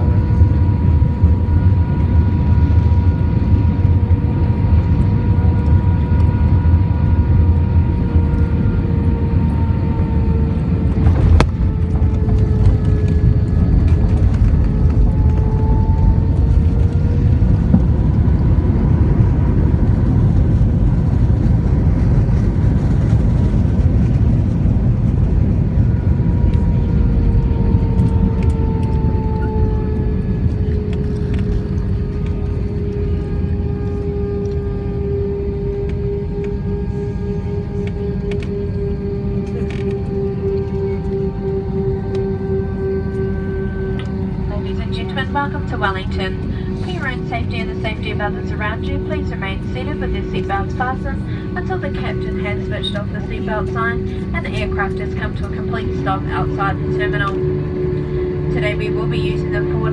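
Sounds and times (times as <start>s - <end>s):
jet engine and airflow rumble: 0.0s - 59.9s
whining engine tones: 0.0s - 59.9s.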